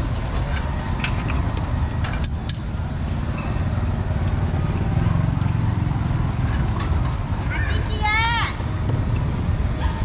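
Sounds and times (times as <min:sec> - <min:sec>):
engine running low rumble: 0:00.0 - 0:10.0.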